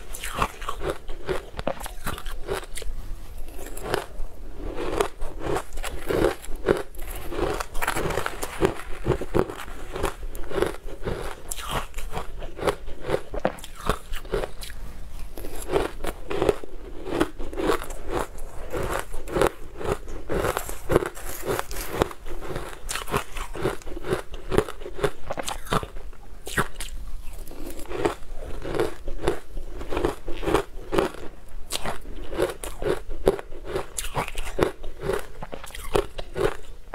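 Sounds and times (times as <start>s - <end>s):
mouth crunching ice: 0.0s - 2.9s, 3.5s - 36.9s.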